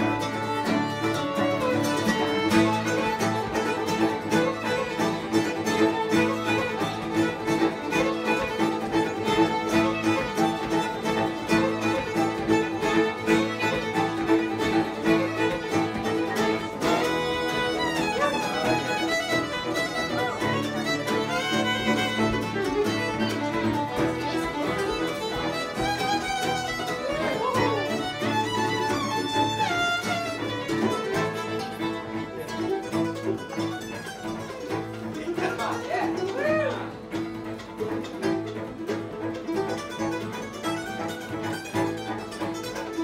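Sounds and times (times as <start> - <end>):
fiddles playing melody: 0.0 - 43.0
mandolin: 0.0 - 43.0
strummed acoustic guitar: 0.0 - 43.0.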